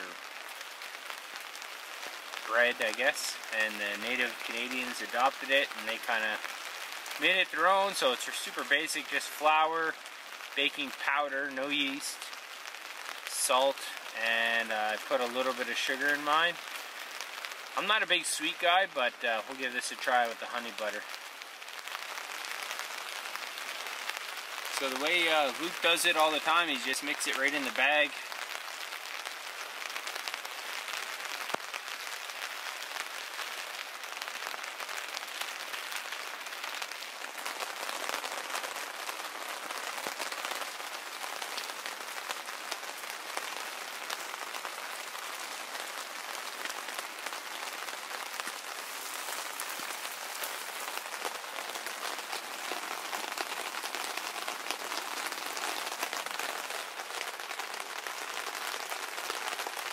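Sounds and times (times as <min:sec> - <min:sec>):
rain drumming on tent fabric: 0:00.0 - 0:59.9.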